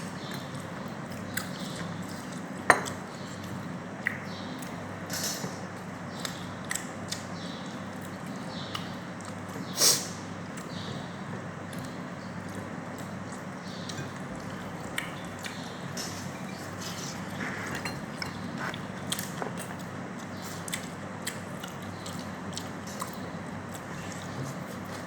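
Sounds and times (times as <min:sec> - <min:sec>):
soft chewing: 0:00.0 - 0:09.7, 0:10.4 - 0:25.0
steady low hum: 0:00.0 - 0:25.0.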